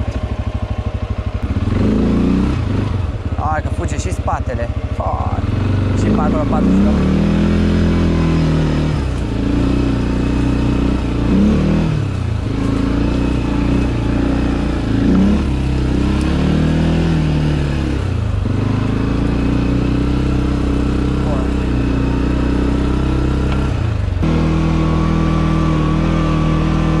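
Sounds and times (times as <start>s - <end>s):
quad bike engine revving: 0.0s - 27.0s.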